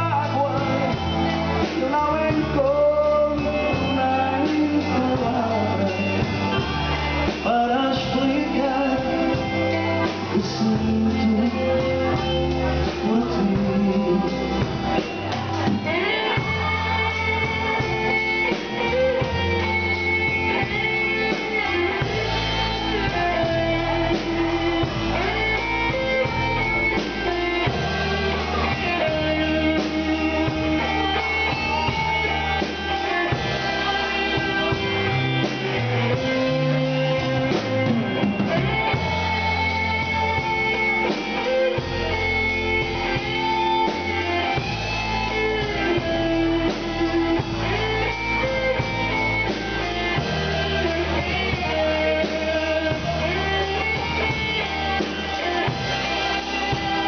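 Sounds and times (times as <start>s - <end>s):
bass and band backing: 0.0s - 57.0s
guitar melody: 0.0s - 57.0s.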